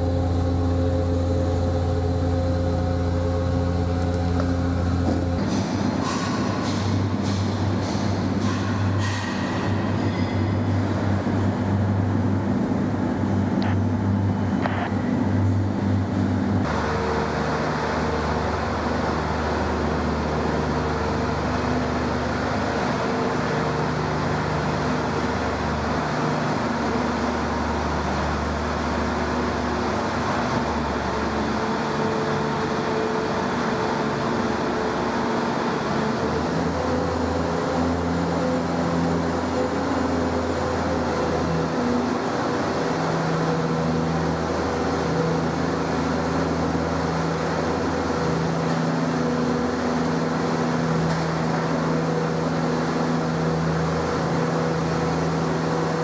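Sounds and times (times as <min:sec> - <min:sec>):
heavy vehicle engine droning: 0:00.0 - 0:56.0.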